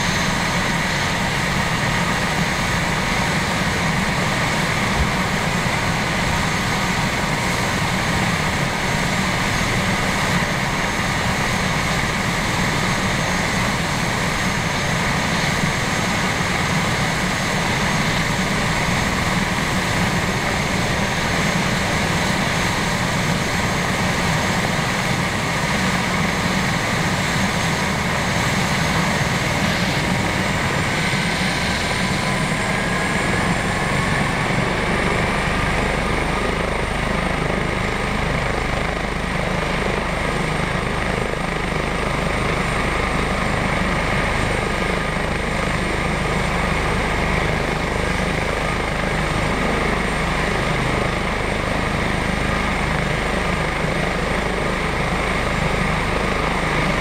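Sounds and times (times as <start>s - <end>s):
helicopter turbine whine: 0.0s - 57.0s
rotor and engine noise: 0.0s - 57.0s.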